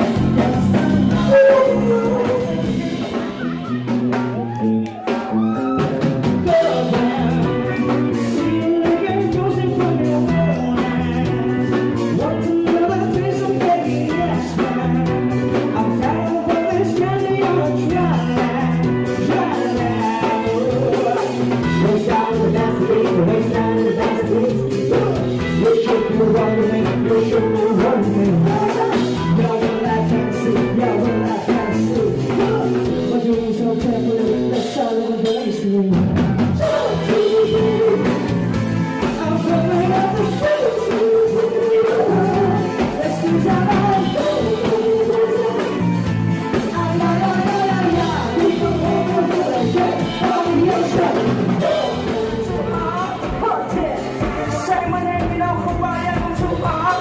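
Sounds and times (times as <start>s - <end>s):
woman singing: 0.0s - 4.8s, 6.4s - 36.0s, 36.6s - 57.0s
live band playing: 0.0s - 57.0s
man singing: 0.0s - 57.0s.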